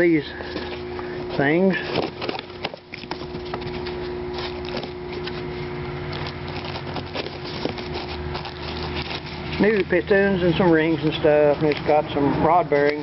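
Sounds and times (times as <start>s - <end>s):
steady hum: 0.0s - 13.0s
paper and cardboard crinkling: 0.4s - 13.0s.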